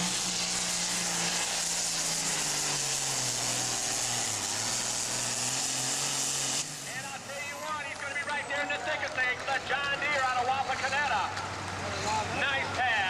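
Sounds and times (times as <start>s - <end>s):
tractor diesel engine roaring: 0.0s - 13.0s.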